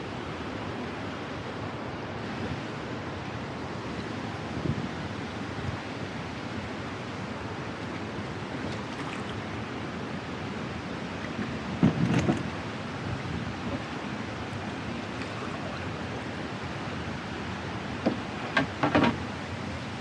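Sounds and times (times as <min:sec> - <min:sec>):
water rushing around canoe: 0:00.0 - 0:20.0
wind: 0:00.0 - 0:20.0.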